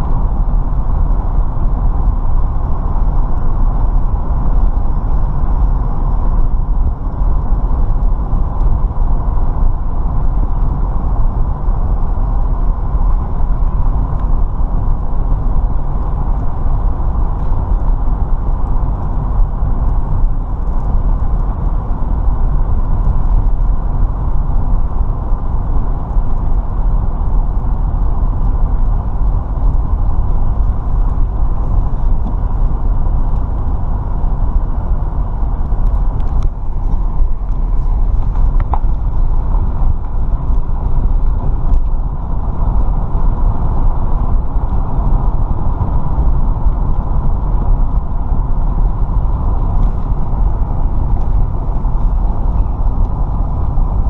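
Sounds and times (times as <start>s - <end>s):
car driving on paved road: 0.0s - 54.0s.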